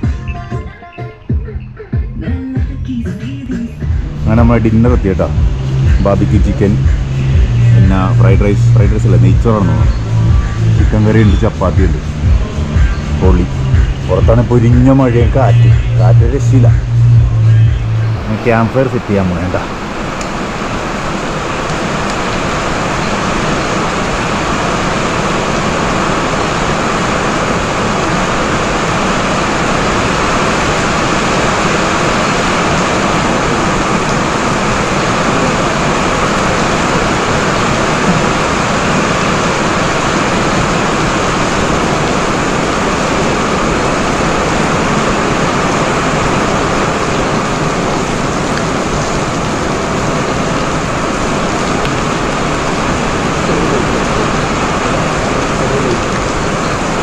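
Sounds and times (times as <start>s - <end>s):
heavy pouring rain: 3.7s - 57.0s
wind: 4.0s - 57.0s.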